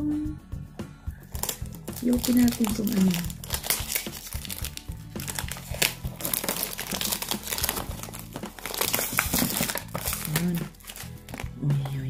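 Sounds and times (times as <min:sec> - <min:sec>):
quiet background music: 0:00.0 - 0:12.0
packaging crinkling: 0:01.3 - 0:11.6.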